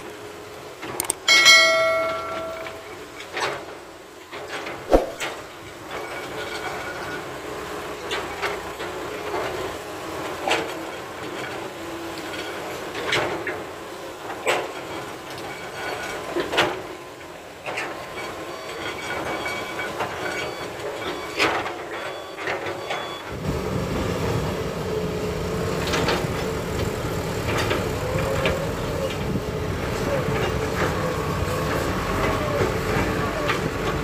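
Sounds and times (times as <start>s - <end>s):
diesel engines running: 6.3s - 34.0s.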